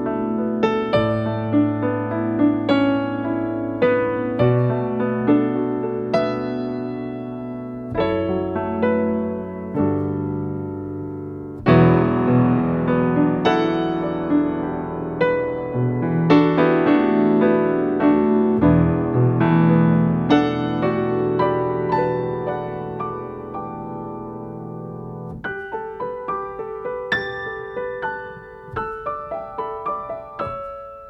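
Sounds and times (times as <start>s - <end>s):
solo piano: 0.0s - 31.0s.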